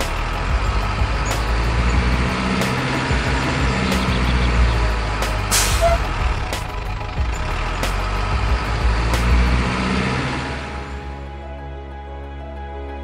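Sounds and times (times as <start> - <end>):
toy truck diesel engine: 0.0 - 11.1.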